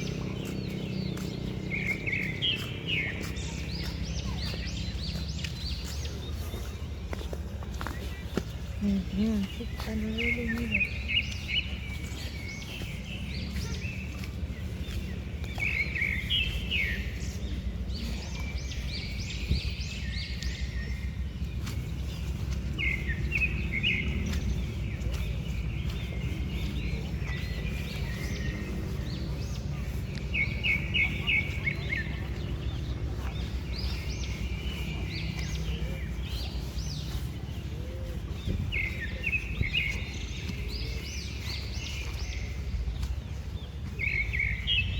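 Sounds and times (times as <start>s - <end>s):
small songbirds chirping: 0.0s - 44.9s
steady low rumble: 0.0s - 44.9s.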